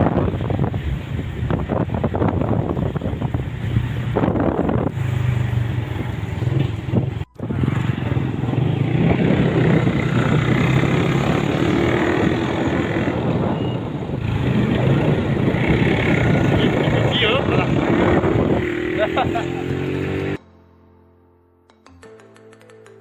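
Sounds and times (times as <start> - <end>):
motorcycle engine cruising: 0.0 - 20.4
wind rushing over microphone: 0.0 - 20.4.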